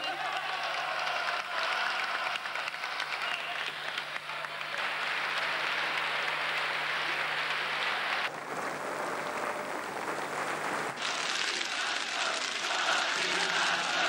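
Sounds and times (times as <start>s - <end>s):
large crowd applauding: 0.0s - 14.0s
muffled crowd noise: 0.0s - 14.0s.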